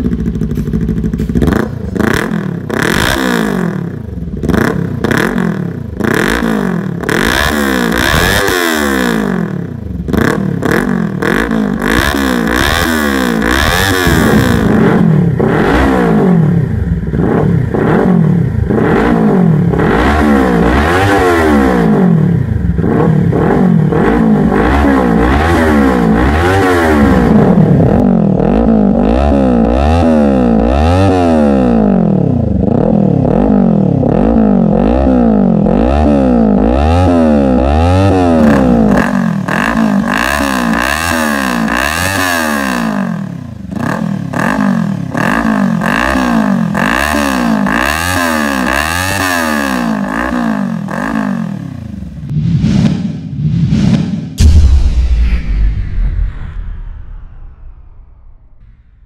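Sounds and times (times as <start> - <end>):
motorcycle engine revving: 0.0 - 54.6.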